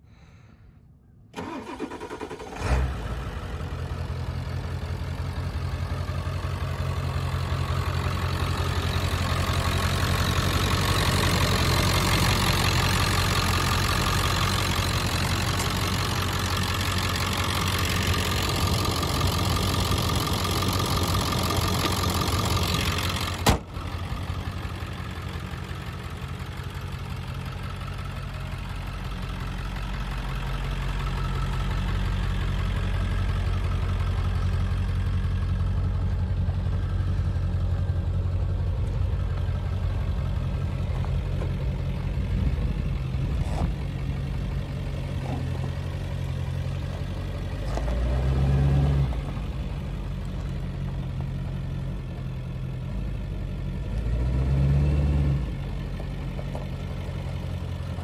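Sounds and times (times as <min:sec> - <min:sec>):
diesel truck engine idling: 0:01.4 - 0:58.0.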